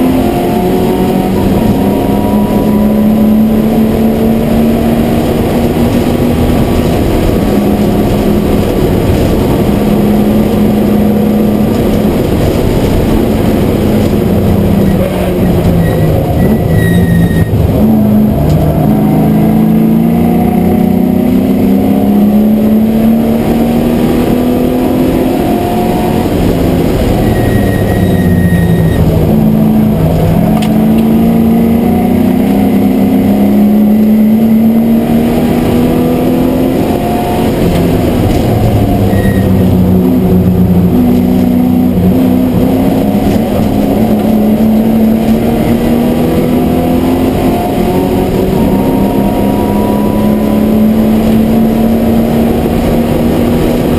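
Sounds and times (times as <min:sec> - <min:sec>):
race car engine revving: 0:00.0 - 0:53.9
road and wind noise: 0:00.0 - 0:53.9.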